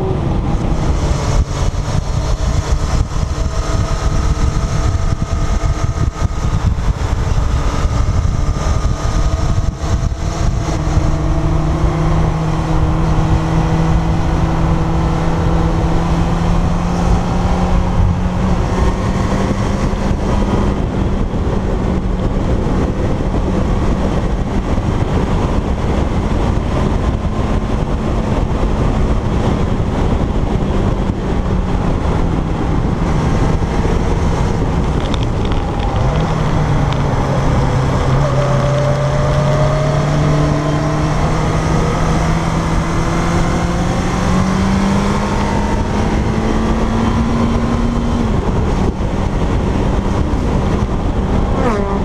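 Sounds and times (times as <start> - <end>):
motorcycle engine cruising: 0.0 - 52.0
wind rushing on microphone: 0.0 - 52.0.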